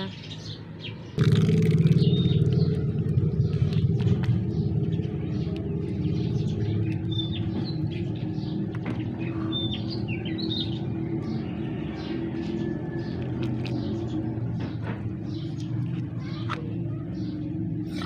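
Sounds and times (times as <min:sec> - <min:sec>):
bird chirps: 0:00.0 - 0:18.0.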